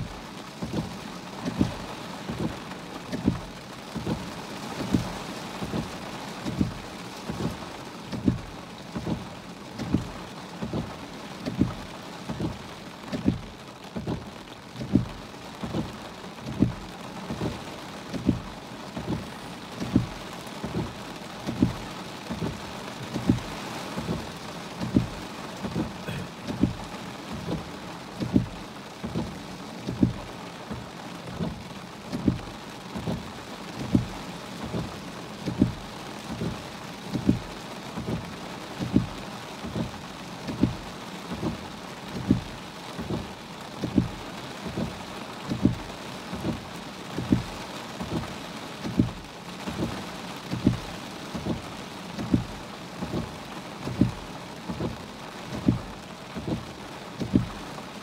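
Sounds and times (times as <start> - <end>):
heavy rain on a car roof: 0.0 - 58.0
large raindrops thudding: 0.0 - 58.0.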